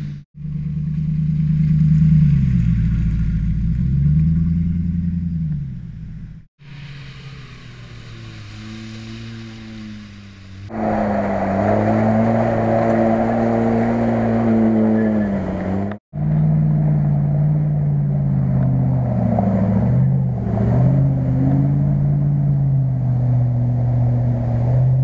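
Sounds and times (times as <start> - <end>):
engine running under load: 0.0 - 25.0.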